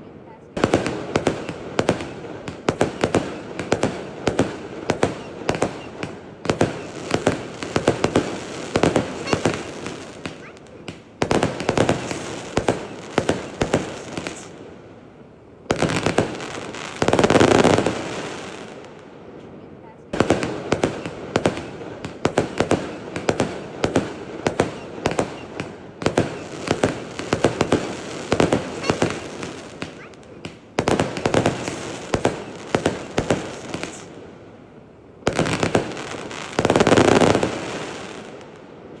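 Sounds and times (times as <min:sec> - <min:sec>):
fireworks bangs and crackle: 0:00.5 - 0:39.0.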